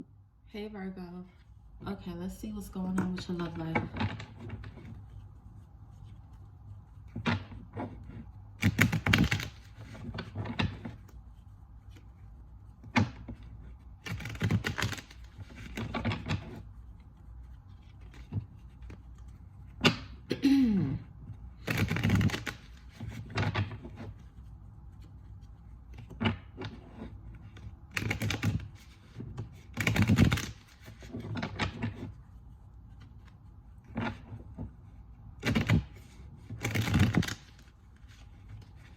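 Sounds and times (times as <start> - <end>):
cards being shuffled: 3.0 - 20.3, 21.2 - 38.9.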